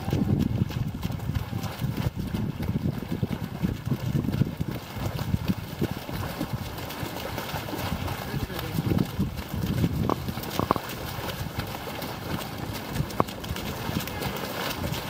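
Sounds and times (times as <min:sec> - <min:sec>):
feet splashing through puddle: 0:00.0 - 0:15.0.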